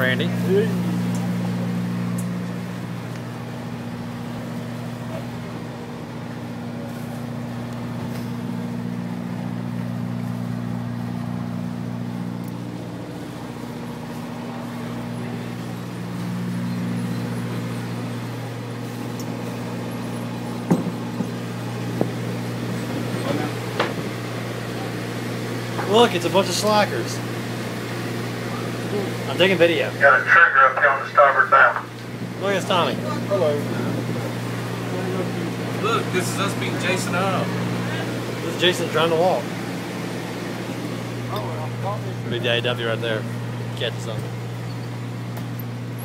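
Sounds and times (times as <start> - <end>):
boat engine humming: 0.0 - 46.0.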